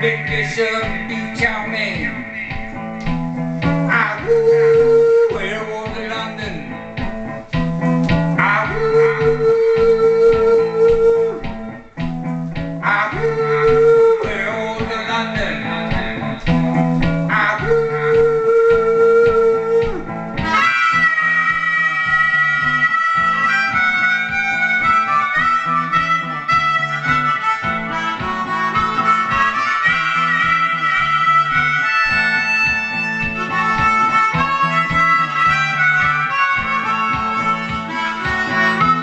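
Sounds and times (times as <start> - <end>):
amplified blues harmonica: 0.0 - 39.0
looped guitar backing: 0.0 - 39.0.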